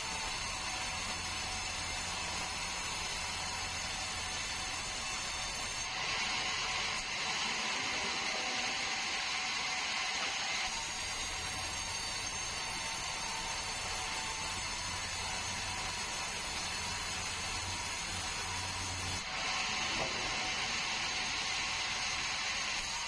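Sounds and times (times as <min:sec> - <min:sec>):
sawmill saw cutting log: 0:00.0 - 0:23.0.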